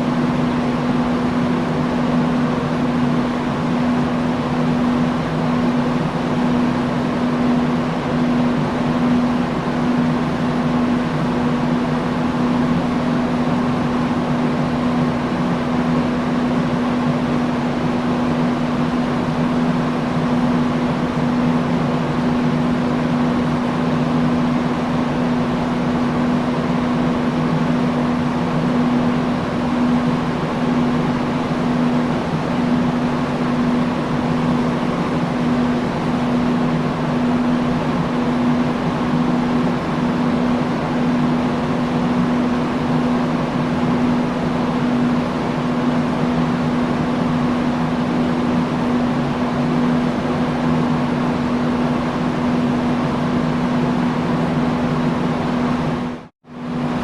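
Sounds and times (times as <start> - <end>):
fan air rushing: 0.0 - 57.0
low motor hum: 0.0 - 57.0.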